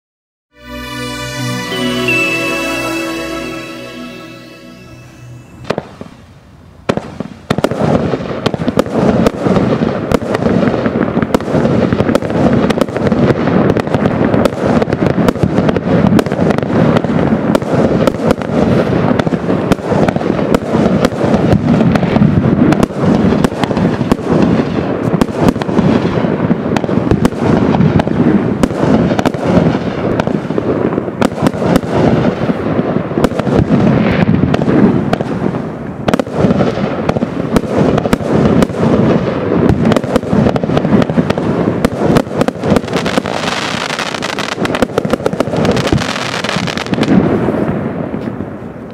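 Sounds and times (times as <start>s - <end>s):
firework crackle: 0.6s - 48.9s
firework bangs: 5.4s - 48.5s.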